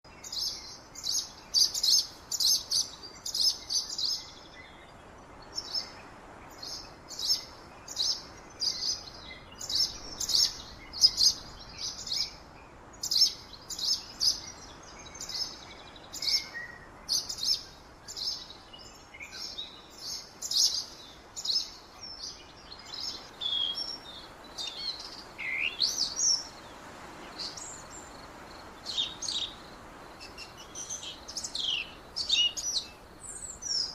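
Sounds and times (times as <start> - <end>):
birds chirping: 0.0 - 33.9
faint steady hiss: 0.1 - 33.9.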